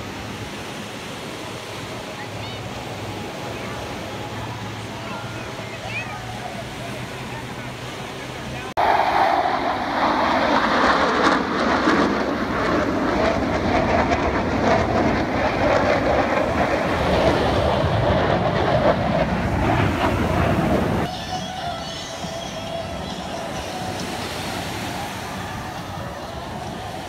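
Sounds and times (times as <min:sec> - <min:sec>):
jet aircraft flying overhead: 0:00.0 - 0:27.0.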